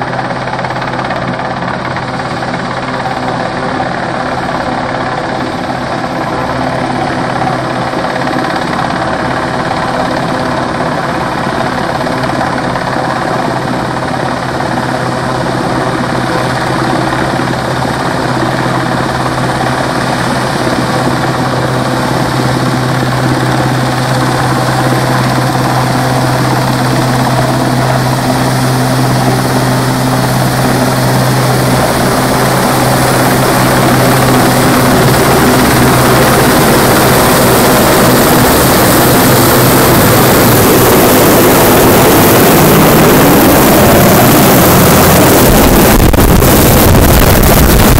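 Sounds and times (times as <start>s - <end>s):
helicopter rotor and turbine drone: 0.0s - 47.9s
wind buffeting microphone: 4.6s - 47.9s.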